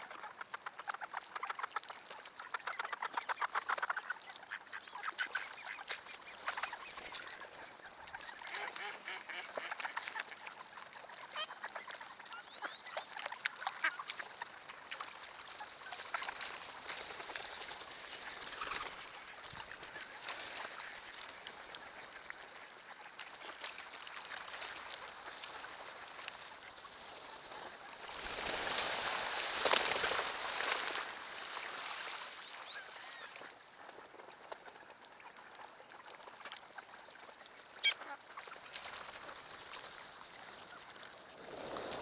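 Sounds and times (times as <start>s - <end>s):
flock of ducks quacking: 0.0s - 41.2s.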